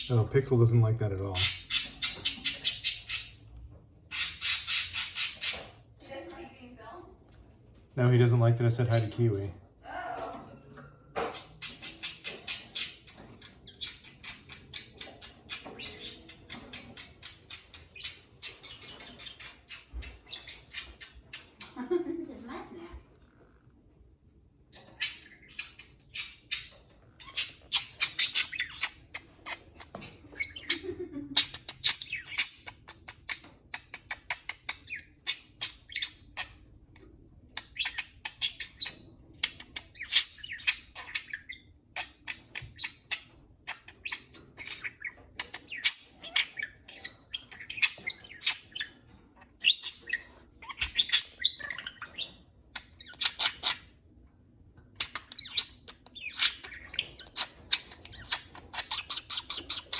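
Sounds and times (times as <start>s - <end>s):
budgerigars chirping and squawking: 0.0s - 7.0s, 8.2s - 9.7s, 10.3s - 22.0s, 24.5s - 59.9s.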